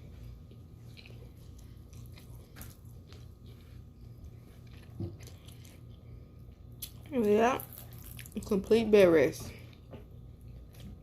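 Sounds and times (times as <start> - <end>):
chewing crunchy food: 0.0 - 8.6, 9.6 - 11.0.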